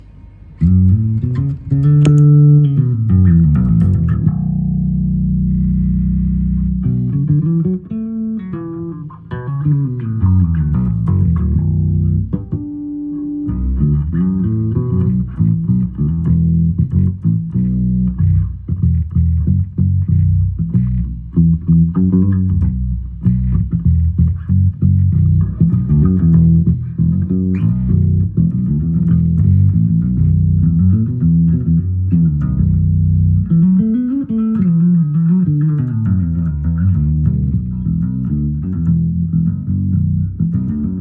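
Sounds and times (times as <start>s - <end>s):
electric bass guitar: 0.0s - 41.0s.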